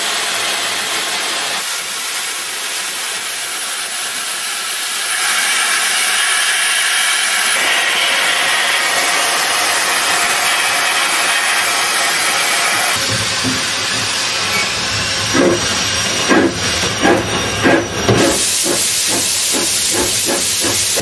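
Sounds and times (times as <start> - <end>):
steam locomotive hissing and running: 0.0 - 21.0.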